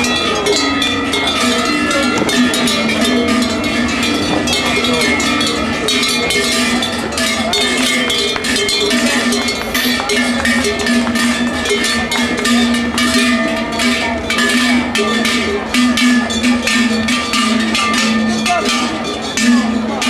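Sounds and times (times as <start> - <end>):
cowbells clanging: 0.0 - 20.0.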